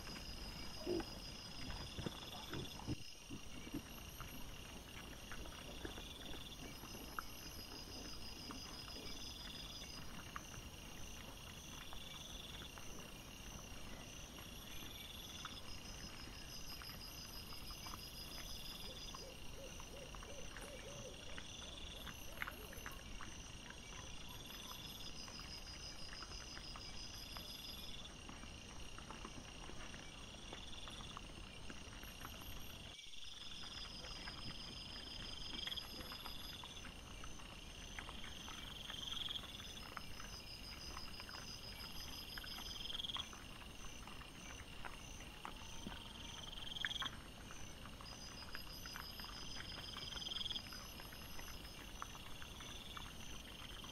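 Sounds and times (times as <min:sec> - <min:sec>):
night insects chirping: 0:00.0 - 0:29.2, 0:29.9 - 0:53.9
wild boar rooting and feeding: 0:00.0 - 0:53.9.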